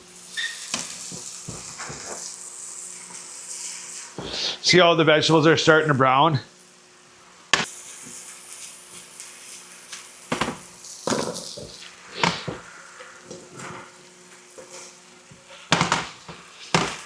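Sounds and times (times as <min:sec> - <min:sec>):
food sizzling in a pan: 0:00.0 - 0:05.5, 0:06.5 - 0:17.0.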